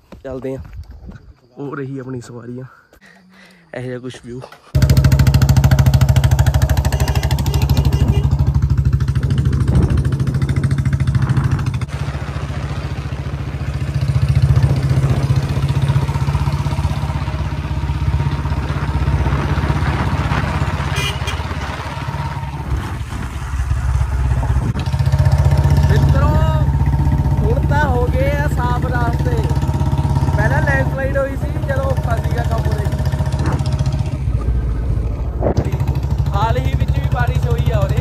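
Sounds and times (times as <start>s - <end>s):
motorcycle engine cruising: 4.7s - 38.0s.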